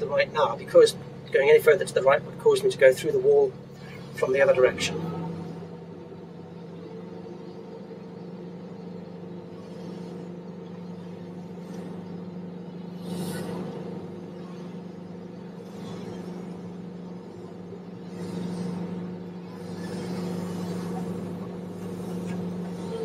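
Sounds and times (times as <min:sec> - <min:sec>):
excavator engine running: 0:00.0 - 0:23.0
hydraulic slewing: 0:00.0 - 0:23.0.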